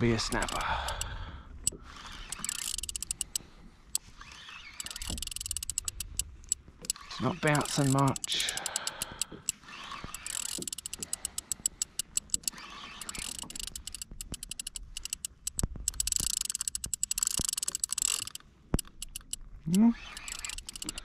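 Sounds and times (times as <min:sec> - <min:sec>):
fishing reel clicking: 0:00.0 - 0:21.0.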